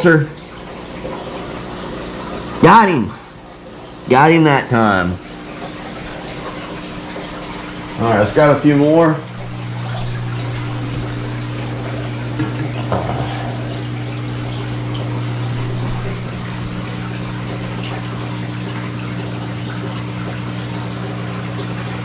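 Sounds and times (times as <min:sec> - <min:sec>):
pump electric hum: 0:00.0 - 0:22.0
water trickling and splashing: 0:00.0 - 0:22.0.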